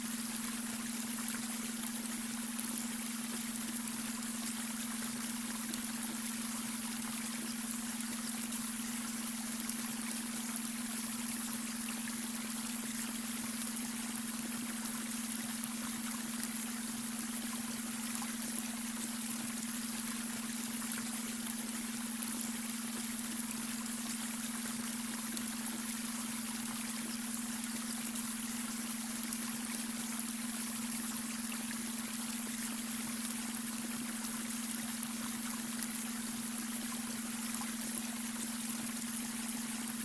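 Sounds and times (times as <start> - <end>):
brook water trickling: 0.0 - 40.0
constant low hum tone: 0.0 - 40.0.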